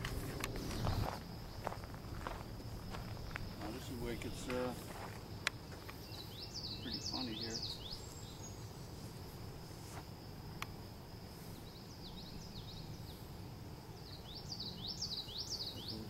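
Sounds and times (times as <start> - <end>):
high insect drone: 0.0 - 16.0
songbird singing: 0.0 - 16.0.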